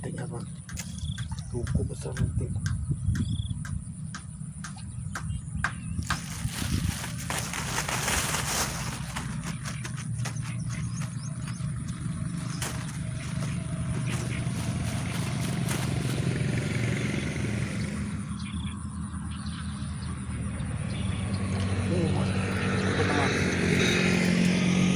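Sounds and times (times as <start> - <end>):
low motor drone: 2.4 - 24.9.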